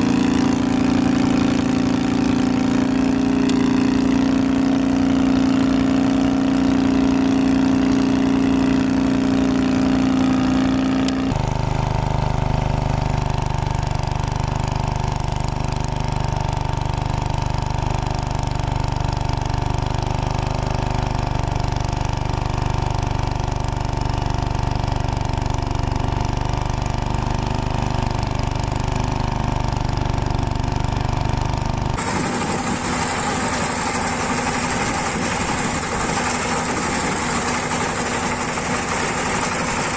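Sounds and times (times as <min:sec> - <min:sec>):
tractor engines running: 0:00.0 - 0:28.7, 0:29.8 - 0:39.9.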